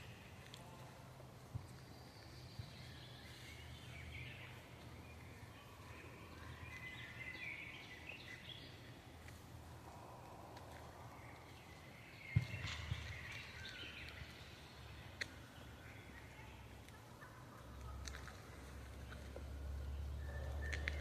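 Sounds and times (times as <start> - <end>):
birds chirping and warbling: 0.0 - 21.0
low wind rumble: 0.0 - 21.0.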